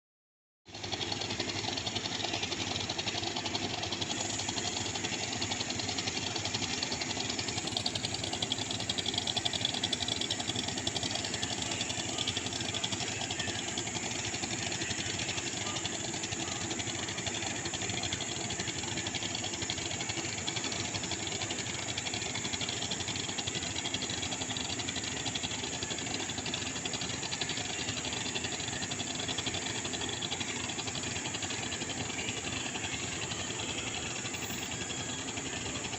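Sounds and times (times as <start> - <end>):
boat motor running: 0.7 - 35.9.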